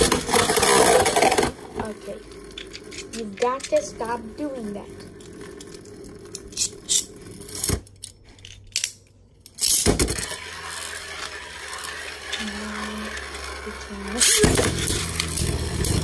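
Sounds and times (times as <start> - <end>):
spinning top whirring and rattling: 0.0 - 8.1, 9.5 - 16.0.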